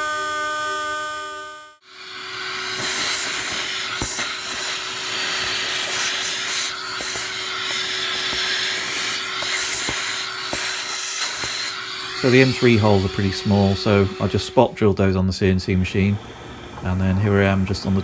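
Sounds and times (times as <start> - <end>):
vacuum hose sucking hiss: 1.9 - 18.0.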